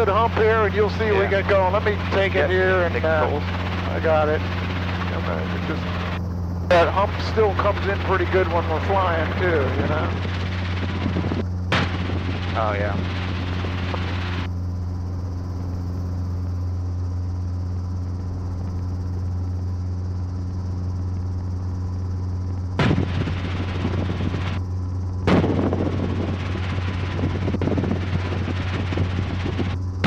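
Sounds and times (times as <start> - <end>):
helicopter engine and rotor drone: 0.0 - 30.0.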